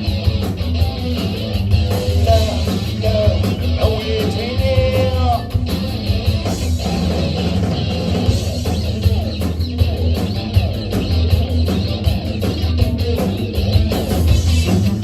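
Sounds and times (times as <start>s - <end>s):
bass and drums: 0.0s - 15.0s
electric guitar: 0.0s - 15.0s.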